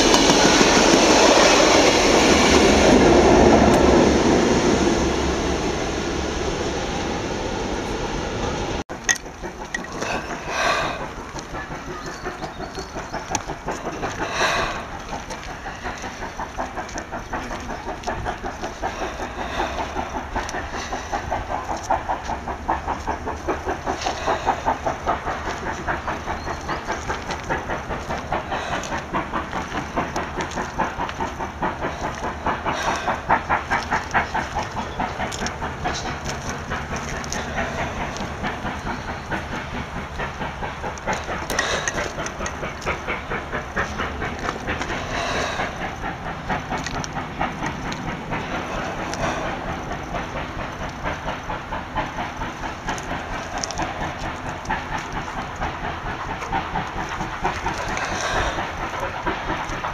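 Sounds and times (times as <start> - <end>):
hiss of steam: 0.0 - 59.9
steam locomotive exhaust beating: 0.0 - 59.9.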